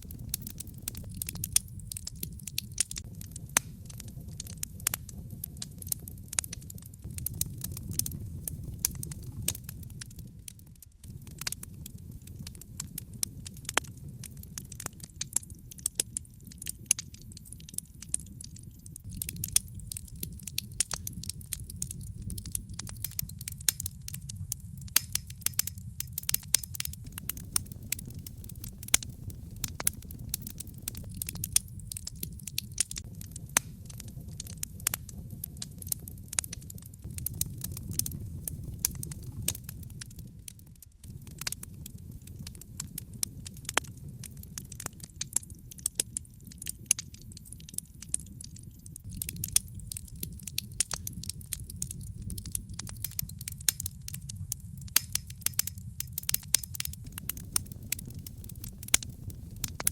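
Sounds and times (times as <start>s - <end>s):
logs crackling and popping: 0.0s - 59.9s
low rumble of flames: 0.0s - 59.9s.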